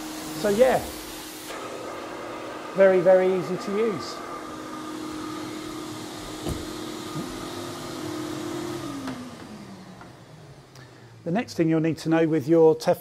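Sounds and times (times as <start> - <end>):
vacuum motor whining: 0.0 - 11.2.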